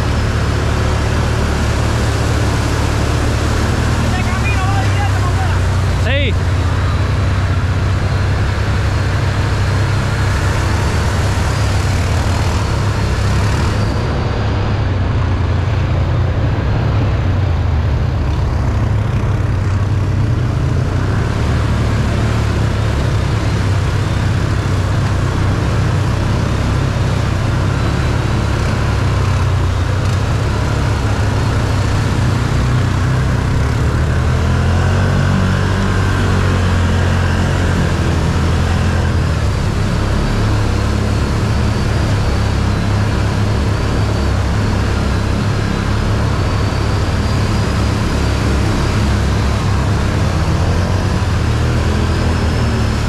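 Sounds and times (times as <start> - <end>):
engine running steadily: 0.0 - 53.0
road noise: 0.0 - 53.0.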